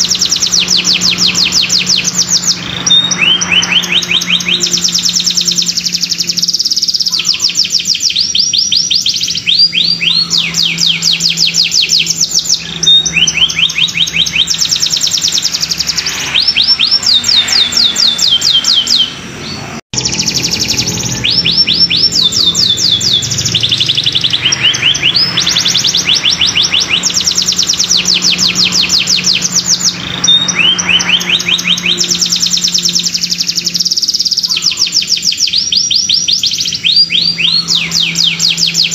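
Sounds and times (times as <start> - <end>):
canary singing trilled song: 0.0 - 38.9.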